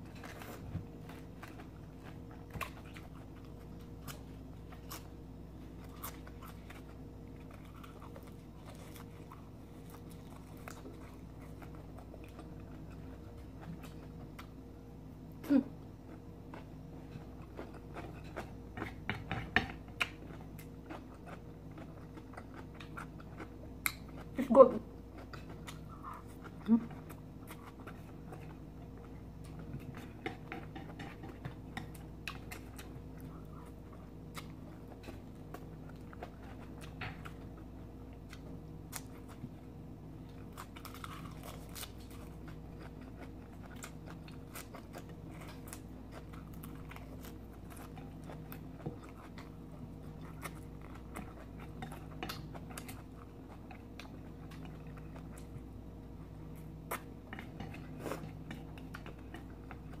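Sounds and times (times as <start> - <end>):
chewing and crunching food: 0.0 - 60.0
low steady hum: 0.0 - 60.0.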